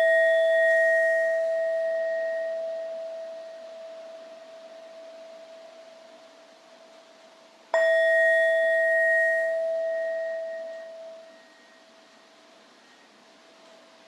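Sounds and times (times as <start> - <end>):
singing bowl ringing: 0.0 - 6.8, 7.8 - 13.2.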